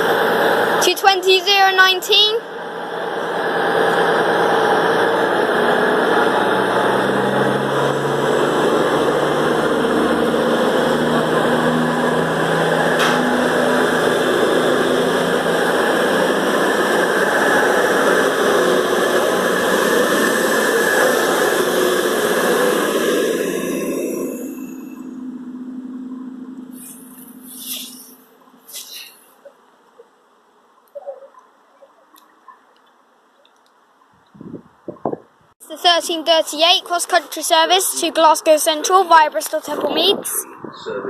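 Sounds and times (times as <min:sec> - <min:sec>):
diesel train engines running: 0:00.0 - 0:30.1, 0:35.6 - 0:41.0
wheel and rail noise: 0:00.0 - 0:41.0.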